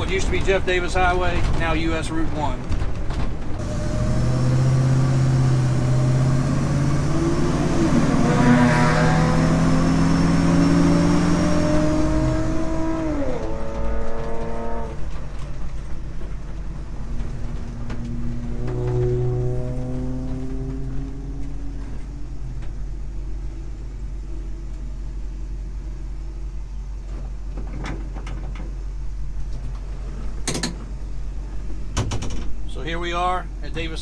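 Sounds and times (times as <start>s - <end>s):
truck engine heard from cab: 0.0s - 34.0s.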